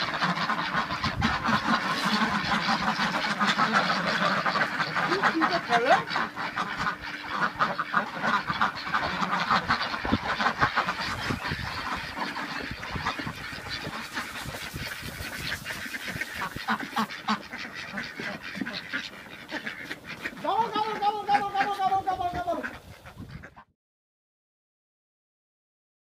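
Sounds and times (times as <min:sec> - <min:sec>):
ducks quacking: 0:00.0 - 0:23.7.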